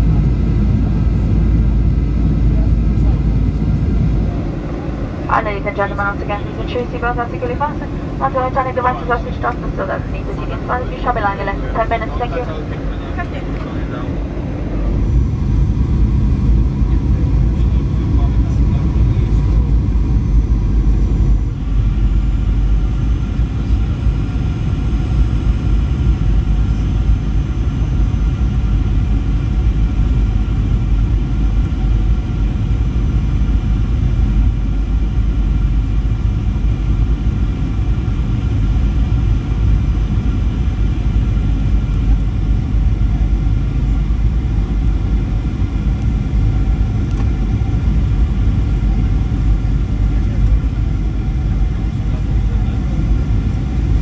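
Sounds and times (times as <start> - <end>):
jet engine cabin rumble: 0.0 - 54.0.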